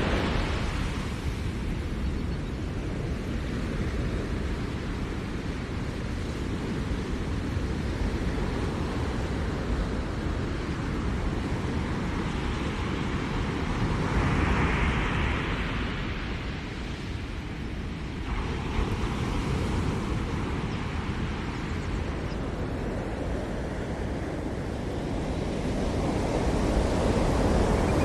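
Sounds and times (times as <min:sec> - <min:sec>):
waves rumbling: 0:00.0 - 0:28.0.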